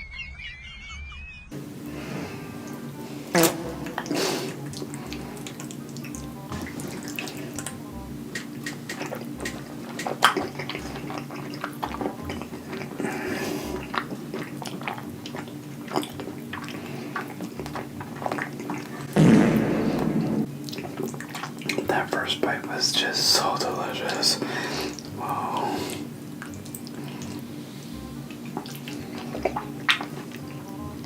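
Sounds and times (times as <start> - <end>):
loud noisy eating sound: 1.6 - 22.8, 23.4 - 27.6, 28.3 - 30.6
wet chewing and lip-smacking: 2.7 - 19.2, 20.5 - 22.8, 24.9 - 31.0.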